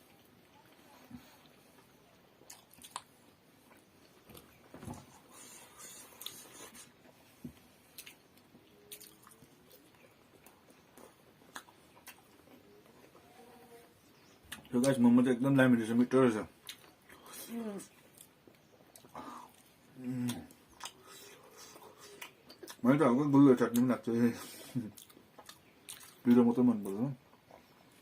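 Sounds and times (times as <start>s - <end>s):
chewing and biting dumplings: 0.0s - 15.0s, 16.5s - 22.8s, 23.6s - 28.0s.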